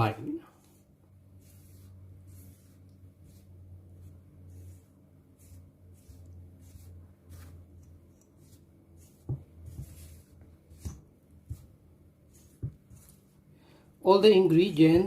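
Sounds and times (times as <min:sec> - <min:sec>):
spatula stirring dough in a bowl: 0:00.0 - 0:13.5.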